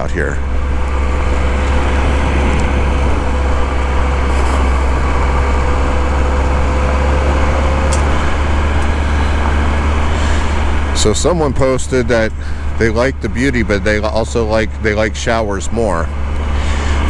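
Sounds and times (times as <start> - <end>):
motorcycle engine running: 0.0 - 17.0
thin steady whine: 0.0 - 17.0.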